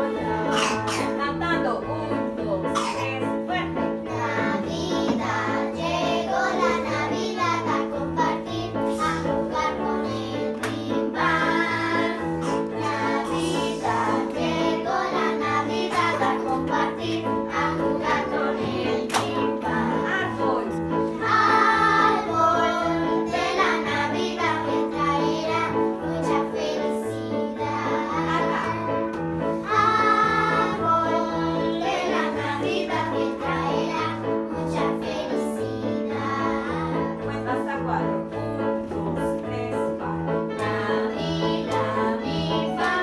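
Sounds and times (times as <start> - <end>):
girls singing together: 4.1 - 37.4, 40.5 - 43.0.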